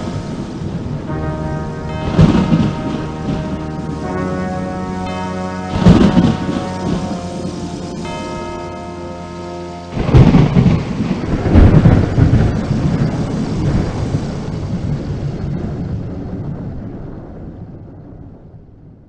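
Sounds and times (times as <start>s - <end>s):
thunderclap rumbling: 0.0s - 8.3s, 10.0s - 19.0s.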